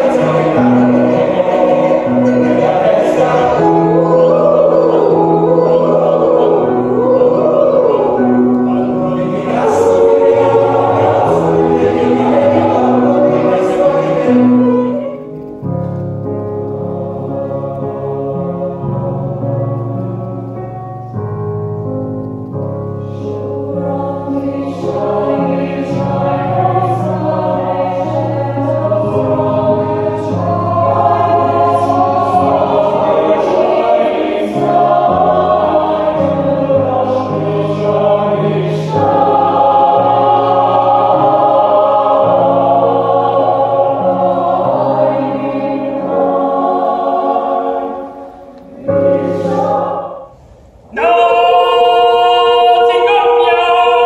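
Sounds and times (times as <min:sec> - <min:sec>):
mixed choir singing: 0:00.0 - 0:20.8, 0:23.0 - 0:54.0.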